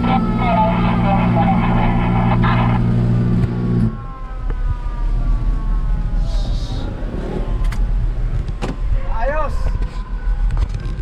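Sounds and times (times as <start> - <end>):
faint fire truck siren: 0.0 - 11.0
low vehicle rumble: 0.0 - 11.0.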